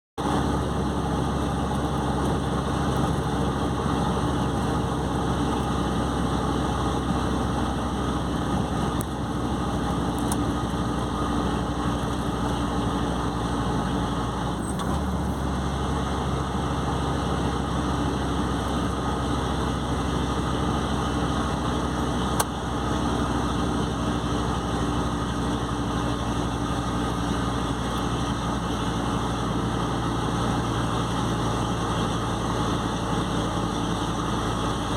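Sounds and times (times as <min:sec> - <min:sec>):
diesel truck engine running: 0:00.2 - 0:34.9.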